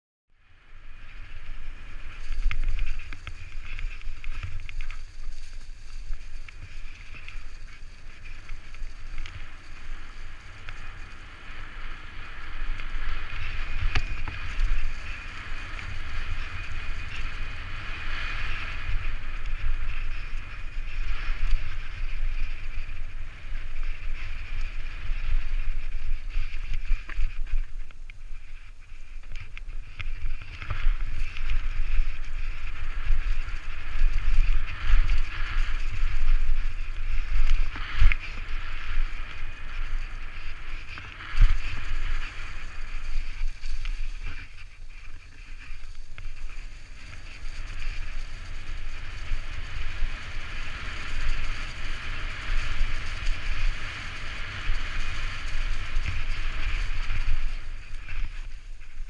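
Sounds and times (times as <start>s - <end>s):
bike tyres rolling over dirt: 0.4s - 59.0s
wind buffeting microphone: 0.4s - 59.0s.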